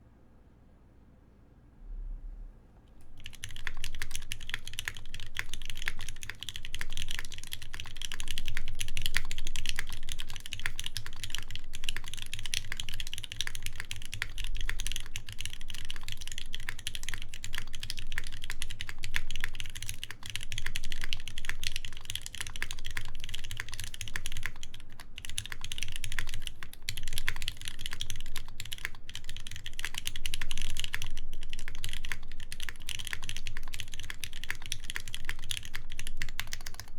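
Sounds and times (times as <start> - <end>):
fast mechanical keyboard typing: 3.0 - 36.9.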